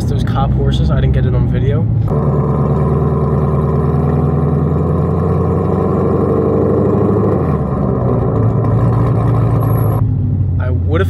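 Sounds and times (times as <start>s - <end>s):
car engine and exhaust running: 0.0s - 11.0s.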